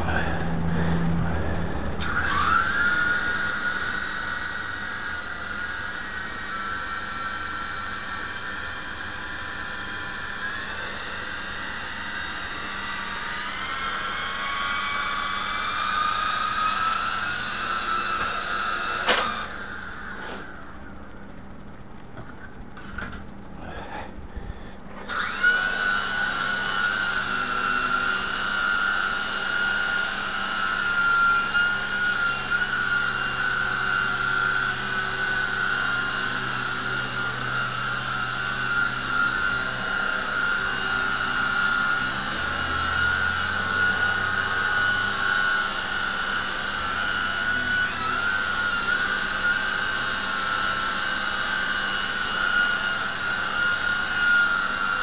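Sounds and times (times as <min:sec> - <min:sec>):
rc helicopter motor whine: 0:00.0 - 0:24.0, 0:25.0 - 0:55.0.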